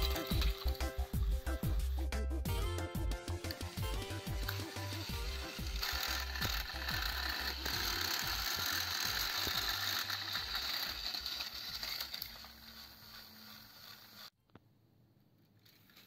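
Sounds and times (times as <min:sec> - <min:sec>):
toy train motors whirring and grinding: 0:00.0 - 0:14.3, 0:15.6 - 0:16.0.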